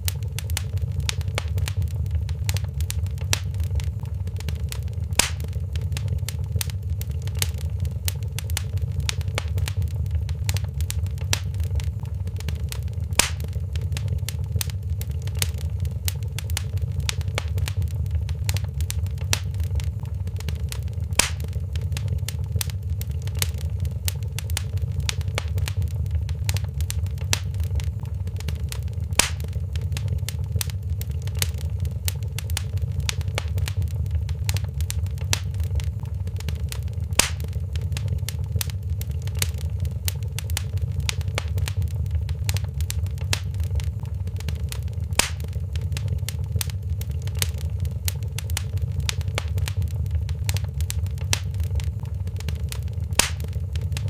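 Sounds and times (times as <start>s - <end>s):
fire pops: 0.0s - 54.0s
fireplace fire crackling: 0.0s - 54.0s
low fire rumble: 0.0s - 54.0s.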